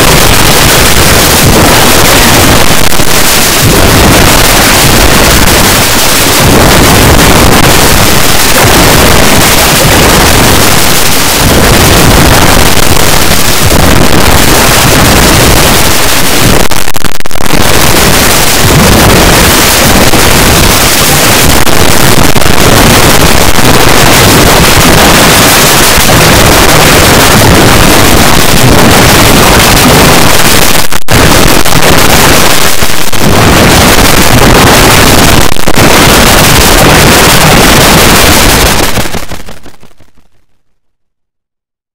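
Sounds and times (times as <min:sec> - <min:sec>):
harsh distorted music: 0:00.0 - 0:40.7.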